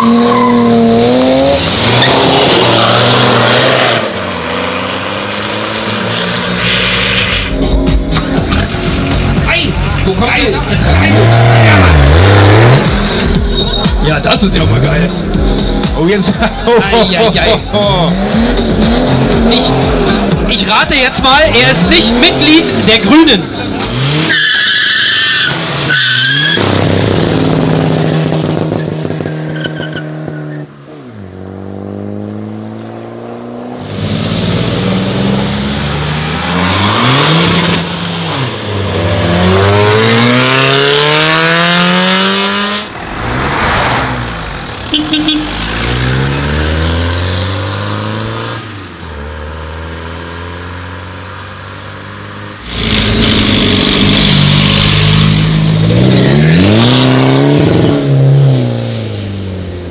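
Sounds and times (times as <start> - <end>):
diesel cars accelerating hard: 0.0 - 59.9.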